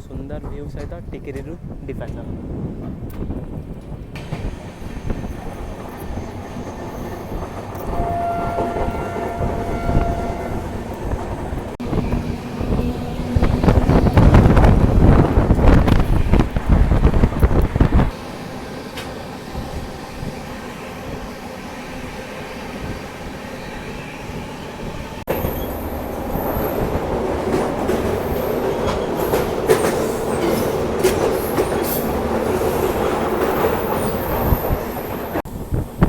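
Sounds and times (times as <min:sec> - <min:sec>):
wind buffeting microphone: 0:00.0 - 0:18.2, 0:19.1 - 0:36.0
train rumbling on rails: 0:00.0 - 0:36.0.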